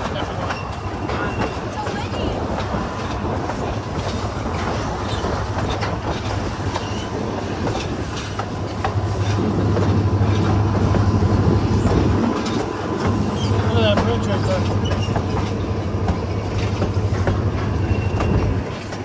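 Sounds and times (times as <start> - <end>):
train rumble: 0.0 - 19.0
train wheels clicking over rail joints: 0.0 - 19.0.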